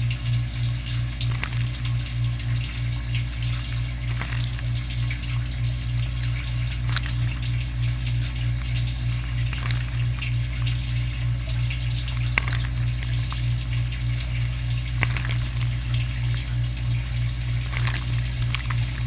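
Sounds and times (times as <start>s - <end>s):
droplets ticking: 0.0s - 19.0s
pulsing low hum: 0.0s - 19.0s
water spraying in dishwasher: 0.0s - 19.0s.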